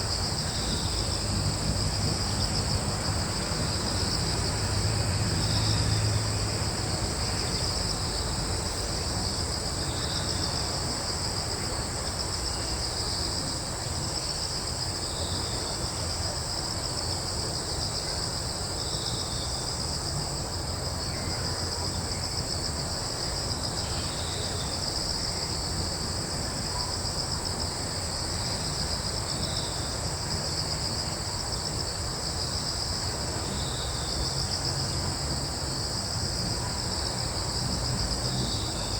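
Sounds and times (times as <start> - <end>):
crickets trilling: 0.0 - 38.9
low rumble of breeze: 0.0 - 38.9.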